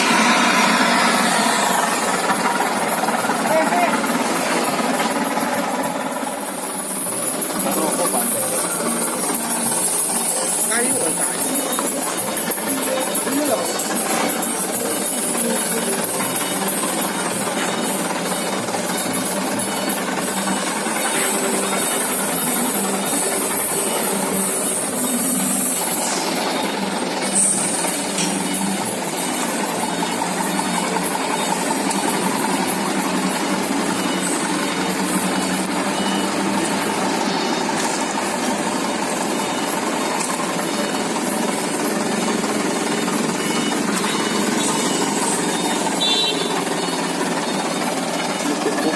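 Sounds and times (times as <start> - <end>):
engine exhaust hissing: 0.0 - 48.9.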